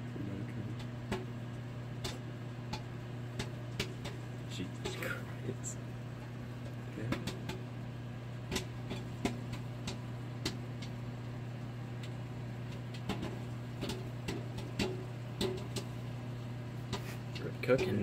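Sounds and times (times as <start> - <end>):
microwave oven humming: 0.0 - 18.0
popcorn kernels popping: 0.6 - 18.0.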